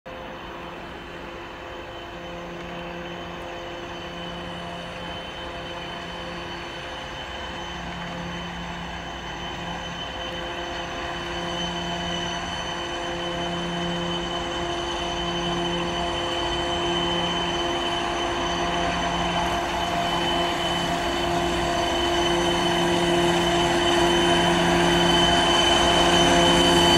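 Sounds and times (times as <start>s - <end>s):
diesel locomotive engine droning: 0.1s - 26.9s.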